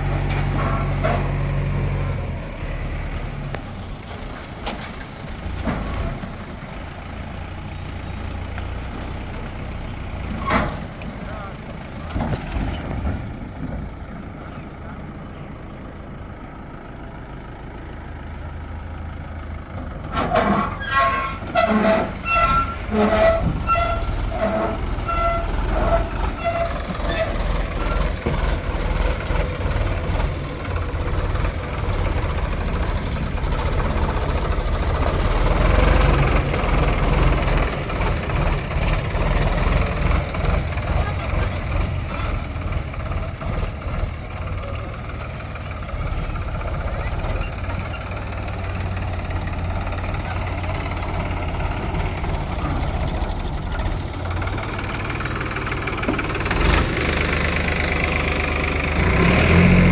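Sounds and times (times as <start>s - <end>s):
diesel engine of backhoe loader: 0.0s - 59.9s.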